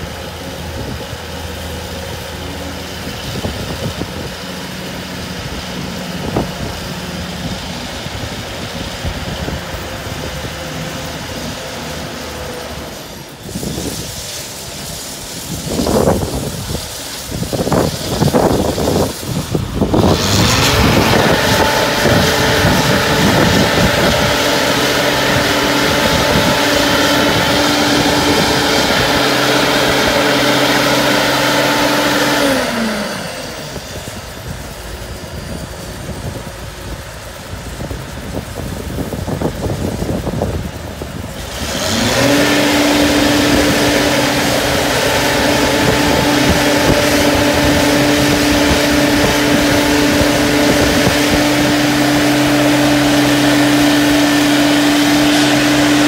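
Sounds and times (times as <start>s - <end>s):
travel lift engine running: 0.0s - 56.0s.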